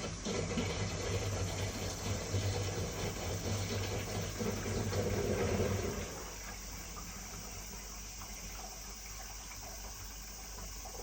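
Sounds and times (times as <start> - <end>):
washing machine draining: 0.0 - 11.0.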